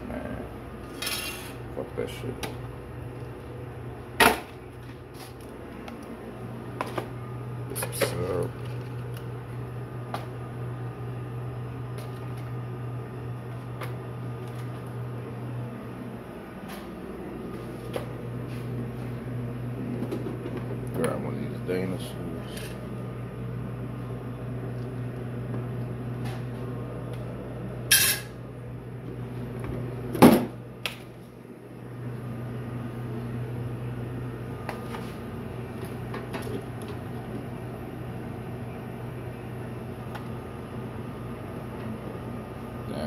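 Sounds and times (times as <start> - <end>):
low appliance hum: 0.0 - 43.0.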